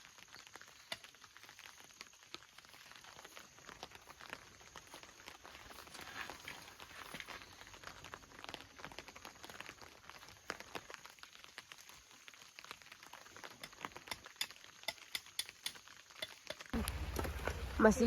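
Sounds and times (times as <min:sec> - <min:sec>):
raindrops pattering: 0:00.0 - 0:18.0.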